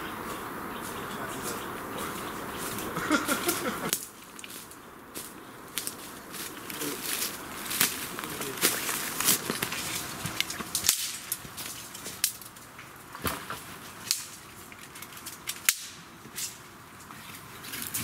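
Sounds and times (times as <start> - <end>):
twigs cracking: 0.3 - 18.0.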